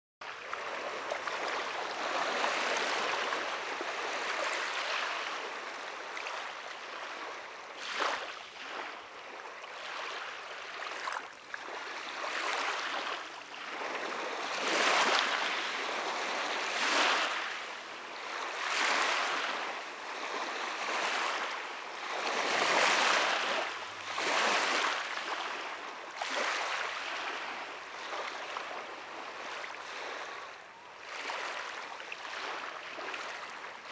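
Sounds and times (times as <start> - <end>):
waves lapping on pebble shore: 0.5 - 33.9.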